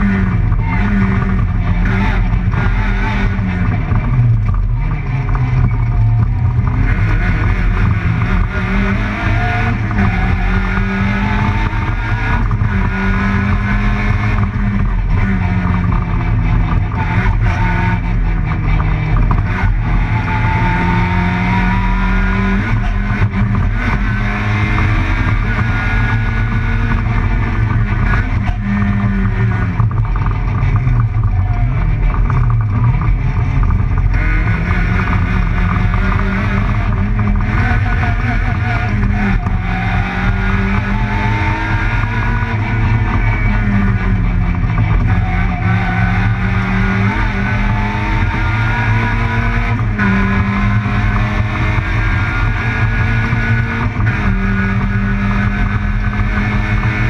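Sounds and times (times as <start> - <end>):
rally car engine revving: 0.0 - 57.0
road and drivetrain noise: 0.0 - 57.0.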